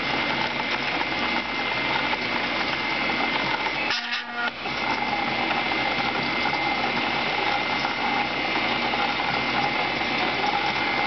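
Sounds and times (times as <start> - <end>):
coil winder whirring: 0.0 - 11.0.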